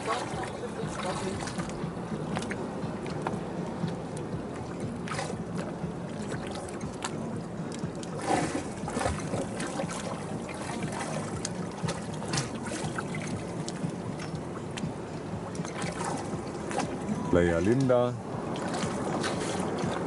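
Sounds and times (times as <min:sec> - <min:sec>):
low steady hum: 0:00.0 - 0:20.0
water splashes: 0:00.0 - 0:20.0
waves lapping against hull: 0:00.0 - 0:20.0
wind on microphone: 0:00.0 - 0:20.0.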